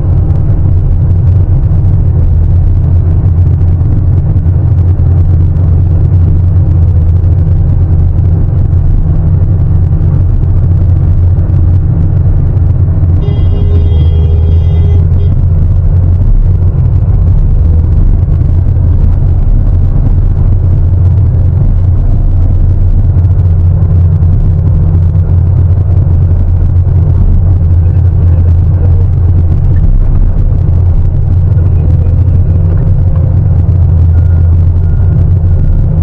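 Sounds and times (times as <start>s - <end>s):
heavy diesel excavator engine rumbling: 0.0s - 36.0s.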